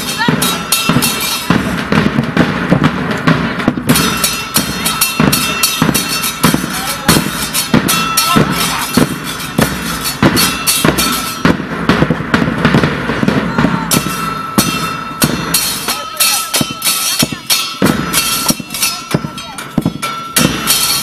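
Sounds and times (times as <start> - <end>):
bass drums with cymbals: 0.0 - 21.0.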